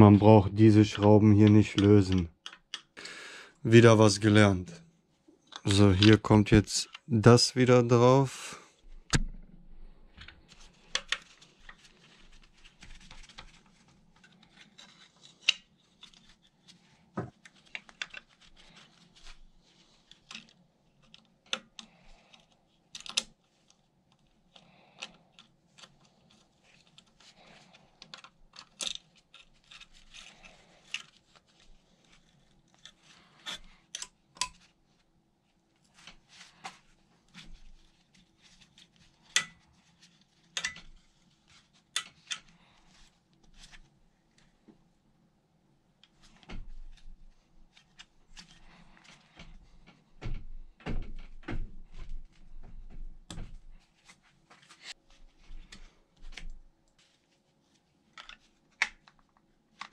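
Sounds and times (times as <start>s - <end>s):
gloved hands handling parts: 0.6s - 3.0s, 5.0s - 8.2s, 8.8s - 59.9s.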